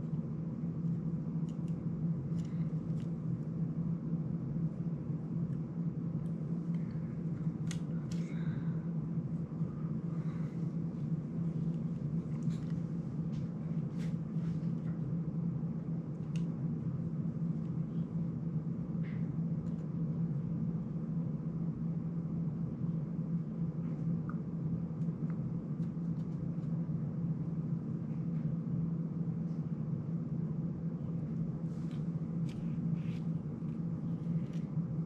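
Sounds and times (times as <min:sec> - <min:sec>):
low room hum: 0:00.0 - 0:35.0.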